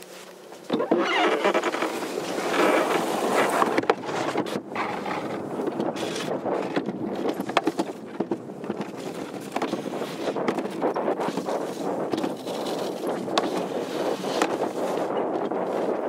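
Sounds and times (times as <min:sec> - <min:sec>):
sled rolling rumble on track: 0:00.0 - 0:16.0
sled clicks and knocks: 0:00.3 - 0:16.0
wind buffeting microphone: 0:00.6 - 0:16.0.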